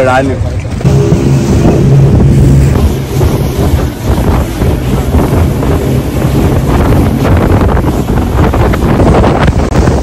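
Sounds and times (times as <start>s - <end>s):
rush of boat wake: 0.0s - 10.0s
wind buffeting microphone: 0.0s - 10.0s
boat engine running: 0.6s - 10.0s.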